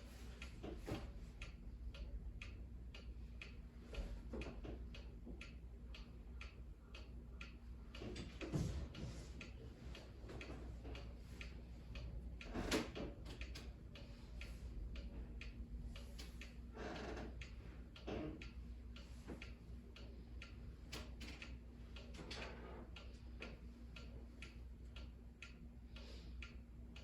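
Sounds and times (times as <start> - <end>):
mechanical clock ticking: 0.0 - 27.0.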